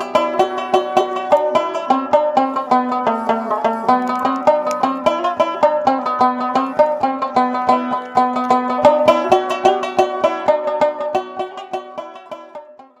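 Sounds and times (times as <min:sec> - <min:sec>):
plucked string tune: 0:00.0 - 0:13.0.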